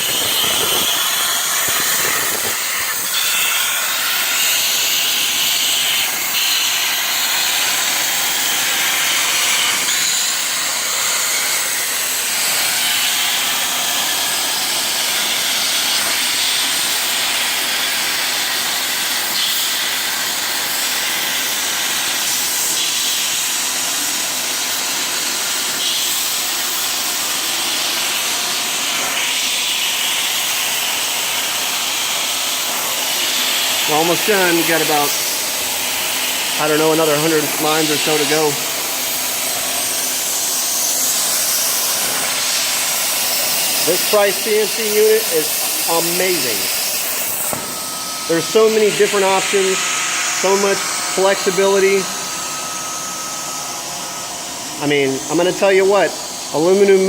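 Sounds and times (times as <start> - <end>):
plasma torch cutting hiss: 0.0 - 57.0.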